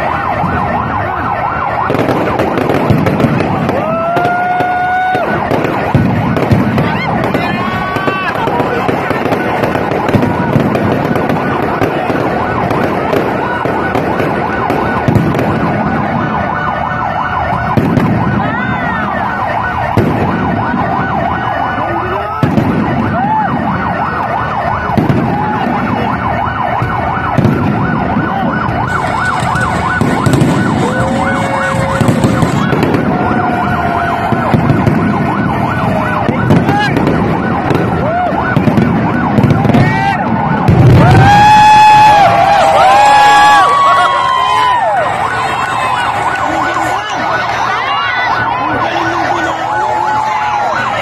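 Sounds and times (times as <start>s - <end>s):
fireworks crackling and popping: 0.0s - 51.0s
fireworks sharp bangs: 0.0s - 51.0s
whistling rockets: 1.7s - 16.7s, 17.3s - 24.1s, 24.8s - 47.1s.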